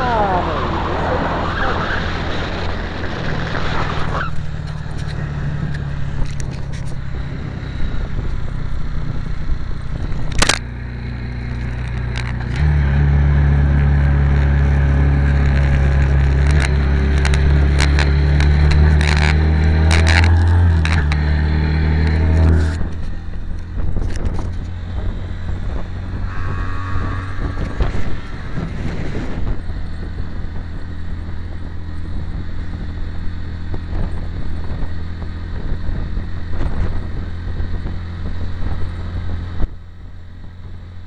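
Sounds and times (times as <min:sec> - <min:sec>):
motorcycle engine rumble: 0:00.0 - 0:41.0
wind on microphone: 0:00.0 - 0:41.0.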